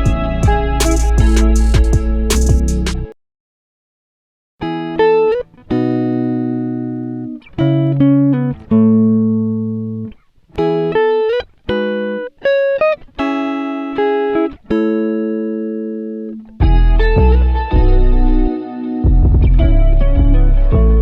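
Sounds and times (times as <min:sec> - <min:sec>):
plucked guitar melody: 0:00.0 - 0:03.1, 0:04.6 - 0:21.0.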